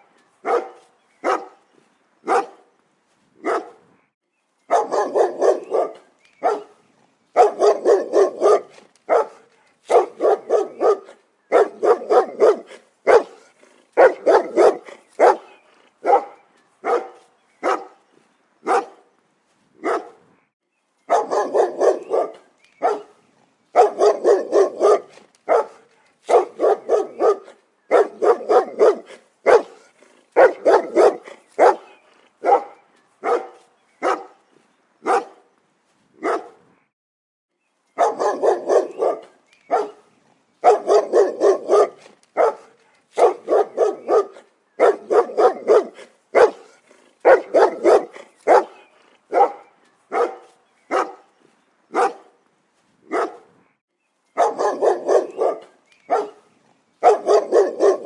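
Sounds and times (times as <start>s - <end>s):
dogs barking: 0.0s - 1.6s, 2.2s - 2.7s, 3.4s - 3.8s, 4.7s - 18.0s, 18.6s - 19.1s, 19.8s - 20.2s, 21.1s - 34.4s, 35.0s - 35.5s, 36.2s - 36.6s, 38.0s - 51.3s, 51.9s - 52.4s, 53.1s - 53.5s, 54.4s - 58.0s.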